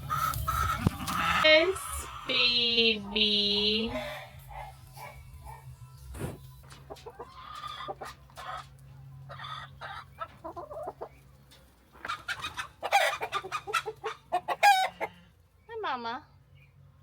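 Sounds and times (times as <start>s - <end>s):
chickens clucking and squawking: 0.0s - 15.7s.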